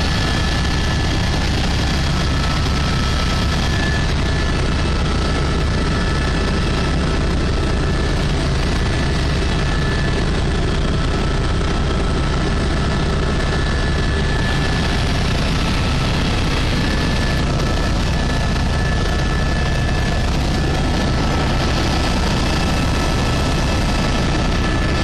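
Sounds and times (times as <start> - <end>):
helicopter engine and rotor rumble: 0.0 - 25.0.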